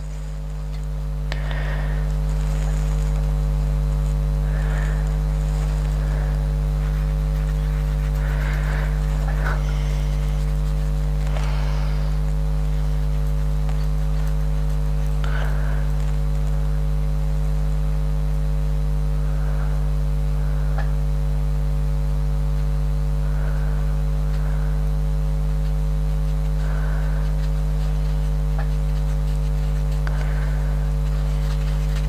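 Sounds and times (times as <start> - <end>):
faint scratches: 0.0 - 19.9, 22.3 - 32.0
electrical mains hum: 0.0 - 32.0.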